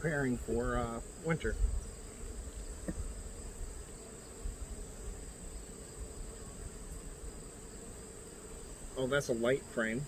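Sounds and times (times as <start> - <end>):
honeybees humming: 0.0 - 10.0.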